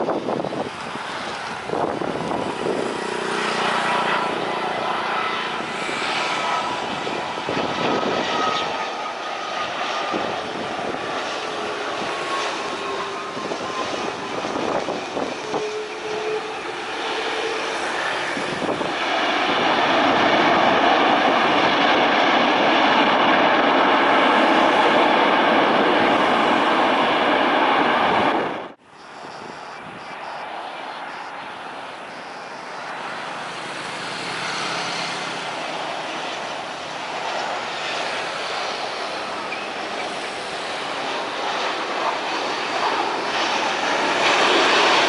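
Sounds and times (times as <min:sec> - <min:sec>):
jet airliner engines landing: 0:00.0 - 0:45.0.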